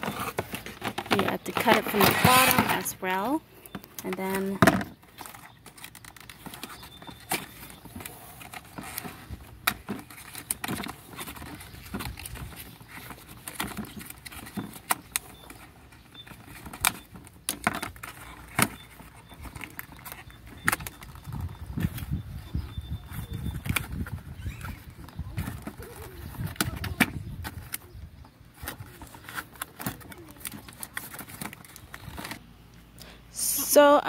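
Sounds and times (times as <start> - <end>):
cardboard and plastic rustling: 0.0 - 33.0.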